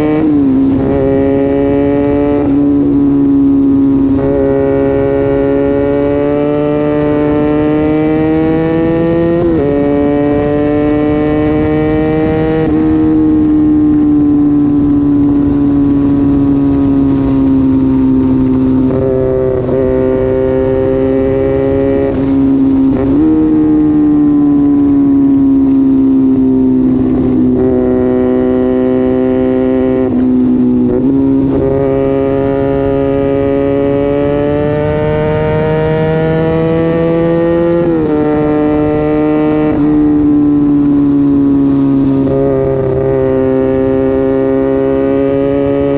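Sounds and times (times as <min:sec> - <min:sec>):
motorcycle engine running hard: 0:00.0 - 0:45.9.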